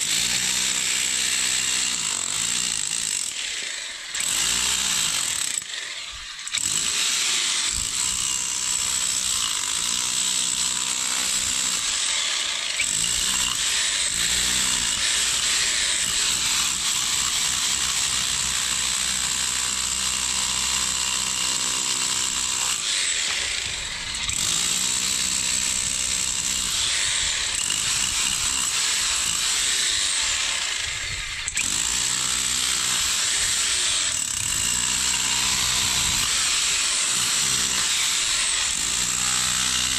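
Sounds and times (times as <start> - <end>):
power tool grinding concrete: 0.0 - 39.9.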